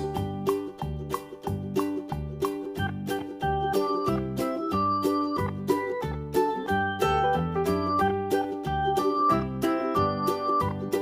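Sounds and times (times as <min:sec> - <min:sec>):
upbeat keyboard music with bass: 0:00.0 - 0:11.0.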